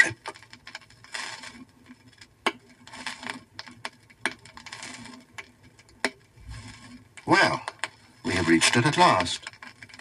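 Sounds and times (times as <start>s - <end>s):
vinyl record click: 0.0s - 6.2s, 7.1s - 10.0s
vinyl surface hiss and crackle: 0.0s - 10.0s.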